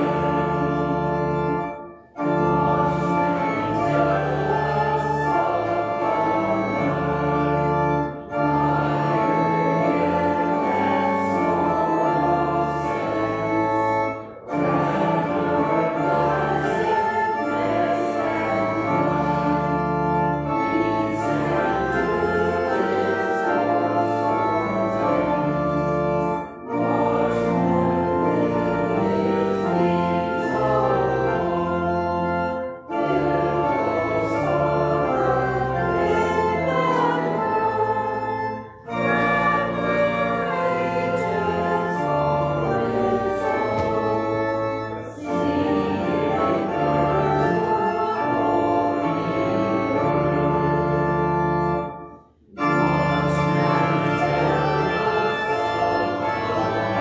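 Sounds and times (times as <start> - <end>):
church organ playing a hymn: 0.0 - 57.0
voices singing: 0.0 - 57.0.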